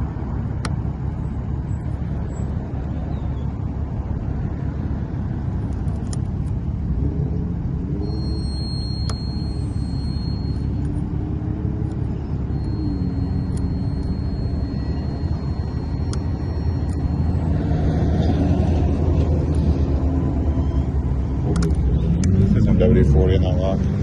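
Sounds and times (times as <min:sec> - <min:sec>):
motor vehicles rumbling: 0:00.0 - 0:24.0.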